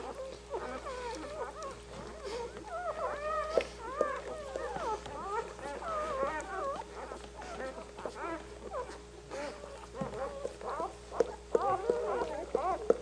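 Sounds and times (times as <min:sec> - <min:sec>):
puppies squeaking and whimpering: 0:00.0 - 0:13.0.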